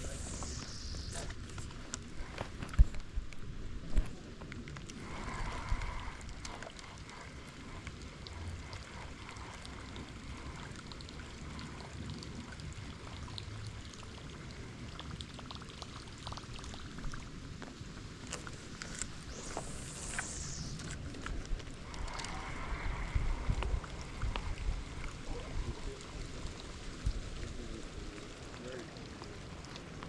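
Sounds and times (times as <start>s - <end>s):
light rain hissing: 0.0s - 30.0s
raindrops ticking: 0.0s - 30.0s.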